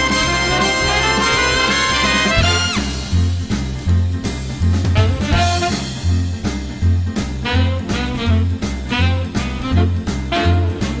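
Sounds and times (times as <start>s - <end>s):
big band playing blues: 0.0s - 11.0s.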